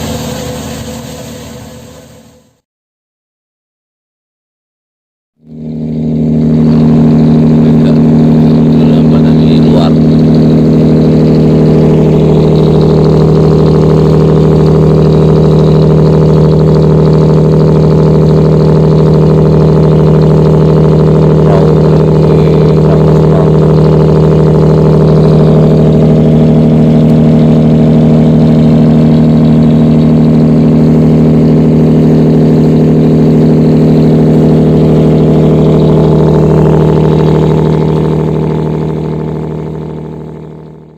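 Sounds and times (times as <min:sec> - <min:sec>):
boat engine running: 0:05.4 - 0:40.9.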